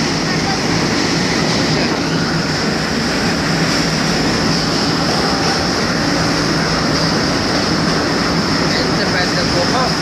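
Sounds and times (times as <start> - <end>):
passenger train running: 0.0 - 10.0.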